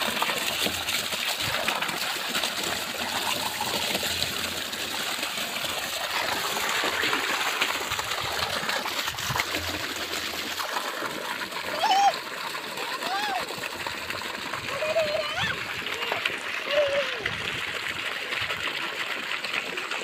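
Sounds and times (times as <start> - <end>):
water gushing from pipe: 0.0 - 20.0
water splashing on hands: 0.0 - 20.0.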